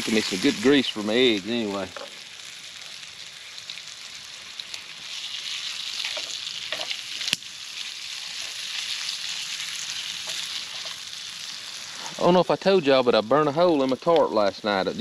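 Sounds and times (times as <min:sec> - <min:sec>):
bacon sizzling in a skillet: 0:00.0 - 0:15.0.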